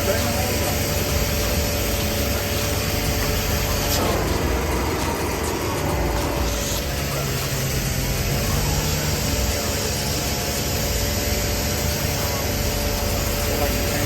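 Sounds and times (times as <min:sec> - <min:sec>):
machine rushing noise: 0:00.0 - 0:14.0
steady hum: 0:00.0 - 0:14.0.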